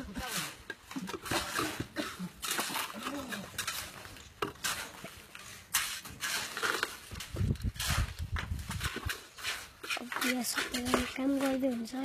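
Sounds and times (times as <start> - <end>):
scraping and clattering: 0.0 - 12.0.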